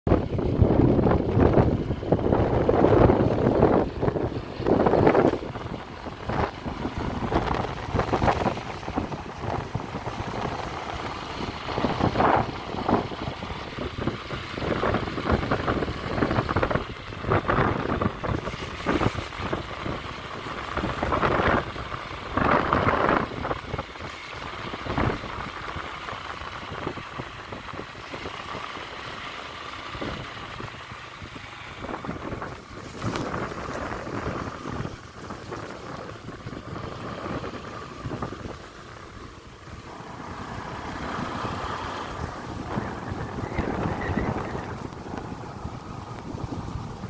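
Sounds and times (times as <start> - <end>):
vehicle road noise: 0.0 - 47.0
wind buffeting microphone: 0.1 - 29.2, 29.8 - 47.0.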